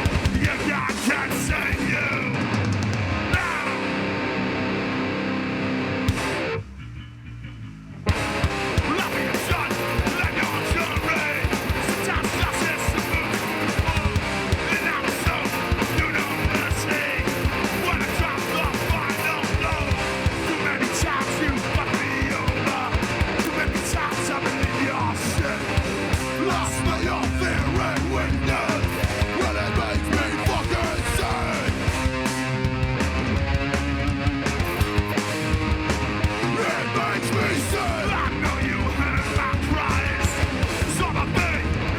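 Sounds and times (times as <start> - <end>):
fast pounding drums: 0.0 - 3.9, 6.1 - 6.4, 8.1 - 41.9
bass guitar: 0.0 - 41.9
distorted electric guitars: 0.0 - 41.9.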